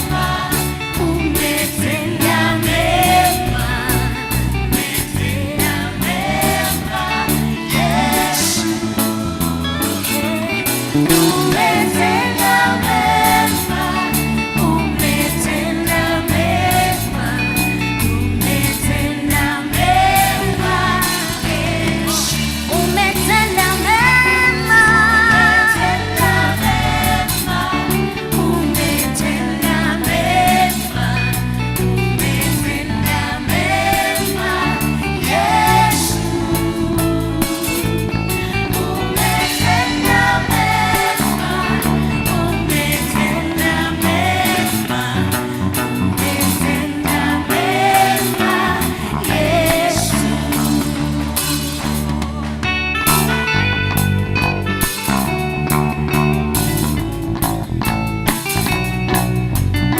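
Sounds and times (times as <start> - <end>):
gospel band with singing: 0.0 - 59.9.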